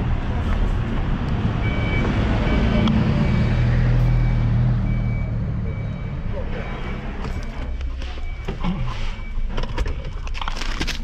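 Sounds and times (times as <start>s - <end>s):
road traffic: 0.0s - 11.0s
vehicle engine rumble: 0.0s - 11.0s.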